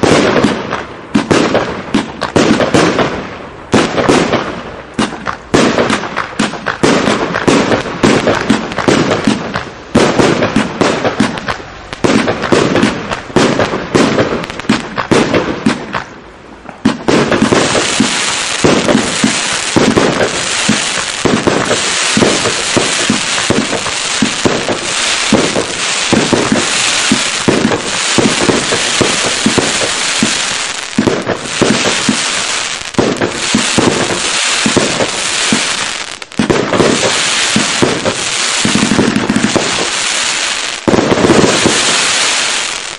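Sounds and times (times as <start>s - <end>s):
dense fireworks crackle: 0.0s - 42.9s
fireworks shots and bursts: 0.0s - 42.9s.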